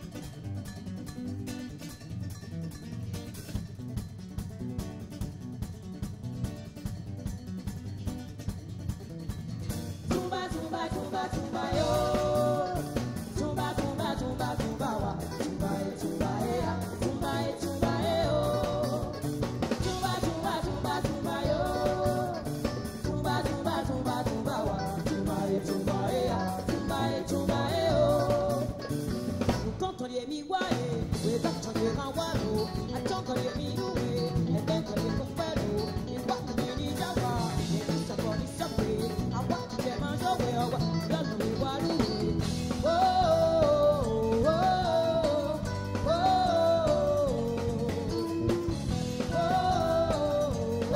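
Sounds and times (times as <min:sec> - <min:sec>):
electric bass: 0:00.0 - 0:30.1, 0:30.7 - 0:50.9
drum kit: 0:00.0 - 0:50.9
electric guitar: 0:00.0 - 0:50.9
woman singing: 0:10.1 - 0:50.9.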